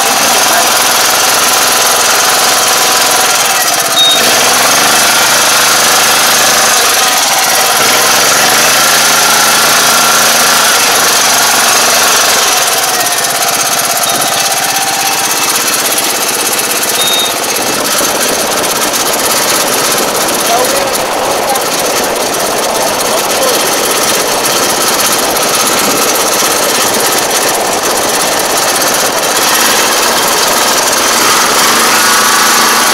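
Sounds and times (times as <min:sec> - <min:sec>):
engine running: 0:00.0 - 0:32.9
rice transplanter clattering: 0:00.0 - 0:32.9.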